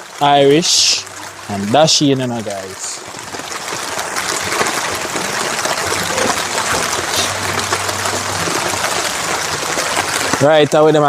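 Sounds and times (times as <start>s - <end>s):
water running into a basin: 0.0s - 11.0s.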